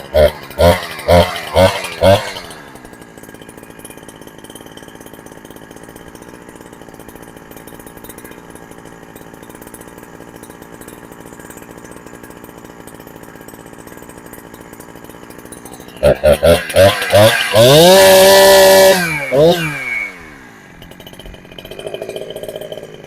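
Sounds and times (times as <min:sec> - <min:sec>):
chainsaw idling: 0:00.0 - 0:23.0.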